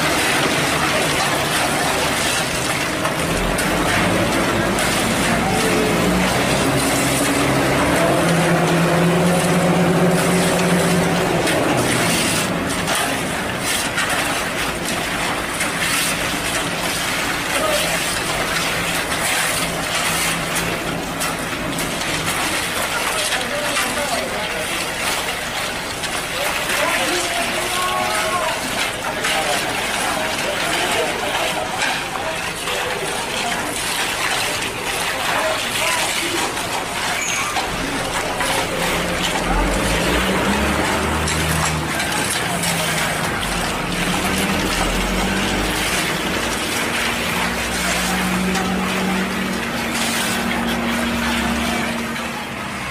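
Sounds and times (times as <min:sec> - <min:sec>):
diesel machinery engine hum: 0:00.0 - 0:23.6, 0:27.8 - 0:52.9
constant rushing noise: 0:00.0 - 0:52.9
scraping and rattling: 0:00.0 - 0:52.9.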